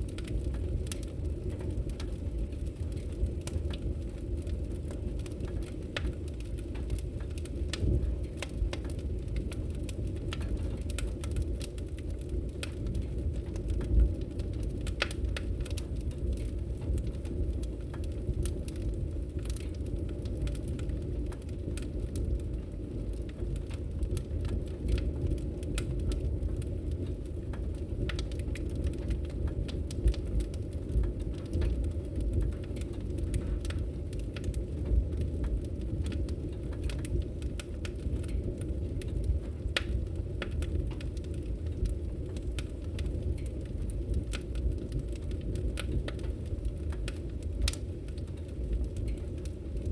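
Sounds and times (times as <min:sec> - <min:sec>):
low rumble of flame: 0:00.0 - 0:49.9
wood fire crackling and popping: 0:00.0 - 0:49.9.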